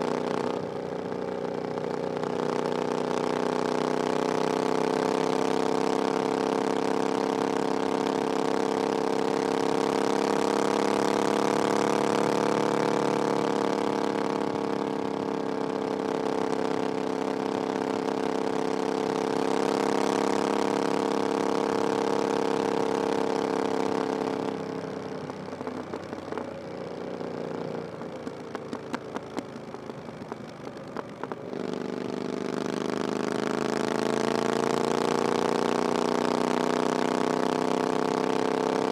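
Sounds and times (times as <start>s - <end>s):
exhaust pops and crackles: 0.0s - 38.9s
motorcycle engine running: 0.0s - 38.9s.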